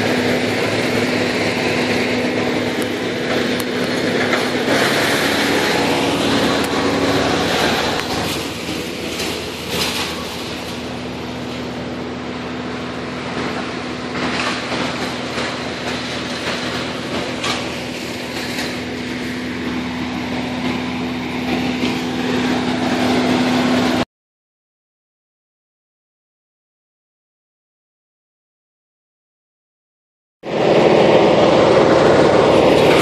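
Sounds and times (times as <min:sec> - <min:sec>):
engine running steadily: 0:00.0 - 0:24.0, 0:30.4 - 0:33.0.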